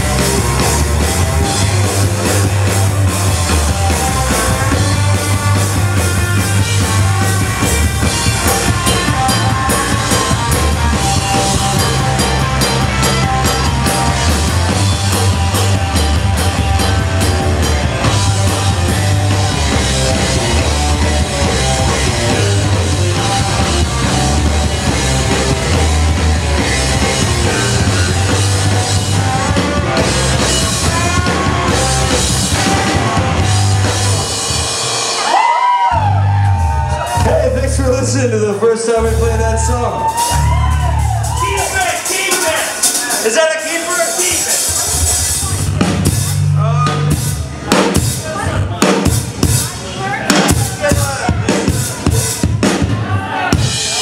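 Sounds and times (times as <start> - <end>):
electric guitars: 0.0 - 43.3
drum kit: 0.0 - 54.0.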